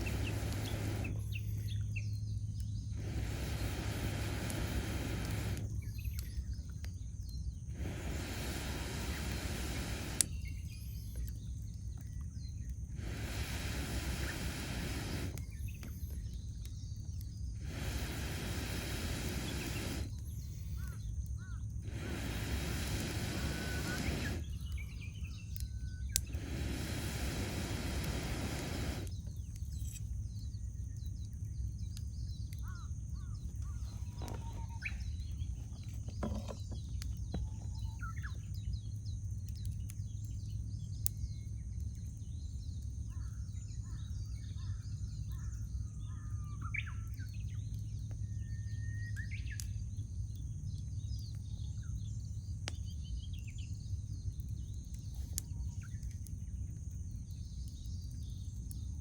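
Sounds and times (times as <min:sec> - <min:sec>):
campfire crackling: 0:00.0 - 0:44.4, 0:45.0 - 0:59.0
birds chirping: 0:00.0 - 0:58.8.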